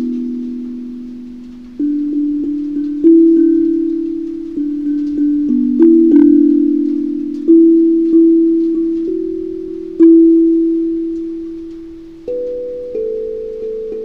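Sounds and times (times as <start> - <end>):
steel tongue drum melody: 0.0 - 14.0.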